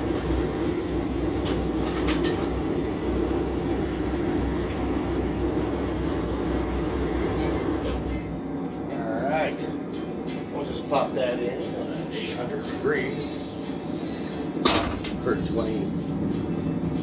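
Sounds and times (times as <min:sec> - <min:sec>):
gas forge burners rushing: 0:00.0 - 0:17.0.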